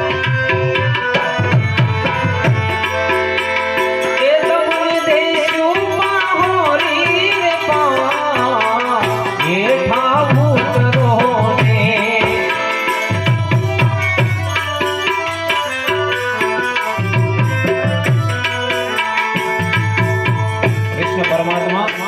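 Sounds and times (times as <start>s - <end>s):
harmonium chords and melody: 0.0s - 22.0s
tabla rhythm with bass strokes: 0.0s - 22.0s.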